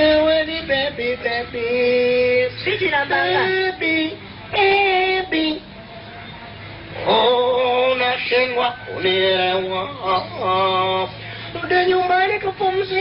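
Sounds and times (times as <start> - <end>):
man singing unaccompanied: 0.0 - 5.8, 6.9 - 13.0.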